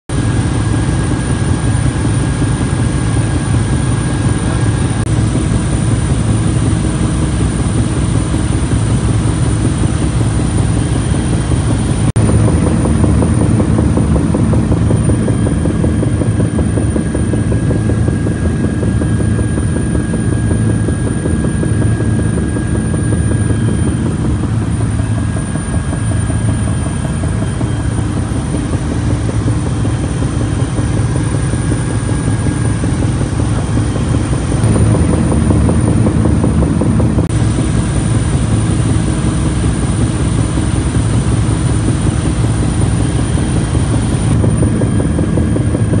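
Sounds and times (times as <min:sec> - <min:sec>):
aircraft engines droning in cabin: 0:00.1 - 0:46.0
faint steady whine: 0:00.2 - 0:46.0.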